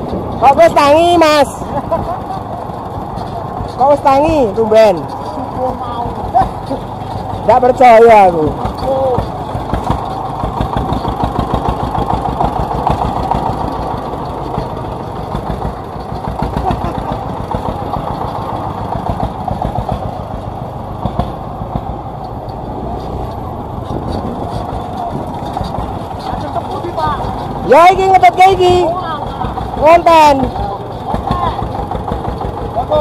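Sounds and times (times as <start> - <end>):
diesel engine chugging: 0.0 - 33.0.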